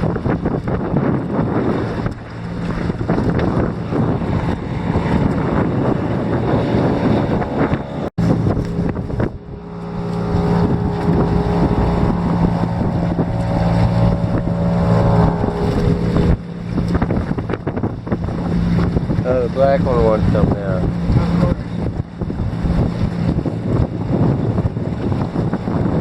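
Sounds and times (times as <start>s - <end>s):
boat motor running: 0.0s - 26.0s
wind on microphone: 0.0s - 26.0s.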